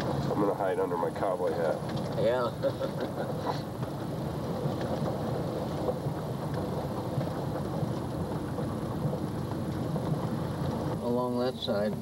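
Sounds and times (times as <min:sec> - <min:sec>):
truck engine and tyre rumble: 0:00.0 - 0:12.0.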